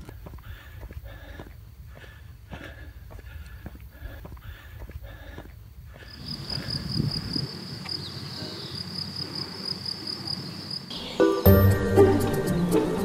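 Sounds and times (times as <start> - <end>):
insects chirping in pulses: 0.0 - 11.5.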